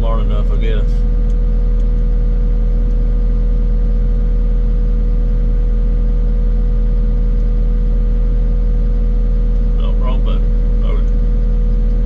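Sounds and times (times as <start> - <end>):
diesel engine humming: 0.0 - 12.0
steady engine whine: 0.0 - 12.0.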